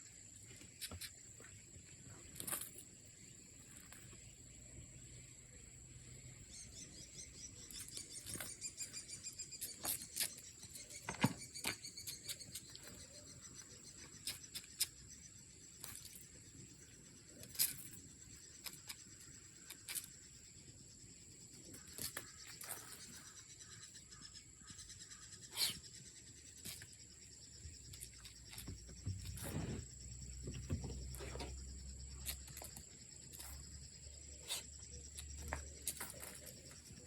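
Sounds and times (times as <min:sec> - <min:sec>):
high insect chorus: 0:00.0 - 0:37.0.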